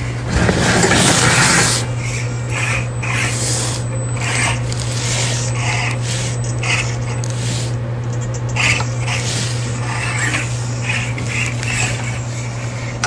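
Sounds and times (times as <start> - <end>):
electric drivetrain humming: 0.0 - 13.0
tyres scraping on stone: 0.3 - 1.9, 2.6 - 13.0.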